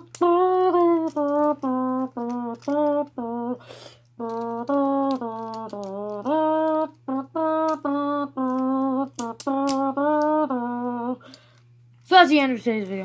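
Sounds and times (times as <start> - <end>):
person humming a tune: 0.0 - 11.6.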